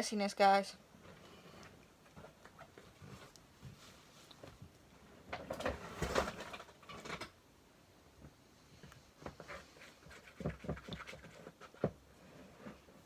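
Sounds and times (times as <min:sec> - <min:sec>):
rustling and rubbing: 0:01.0 - 0:07.2, 0:08.7 - 0:13.0.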